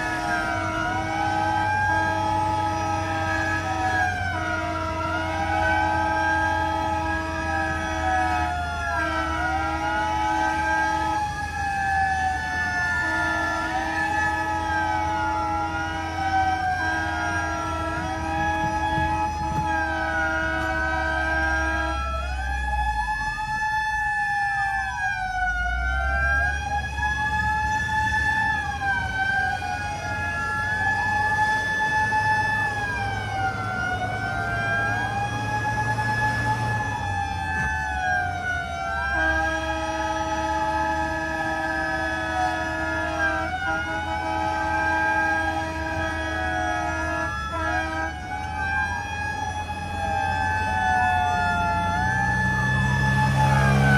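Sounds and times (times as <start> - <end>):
fire engine sirens wailing: 0.0 - 53.9
truck engines running: 0.0 - 53.9.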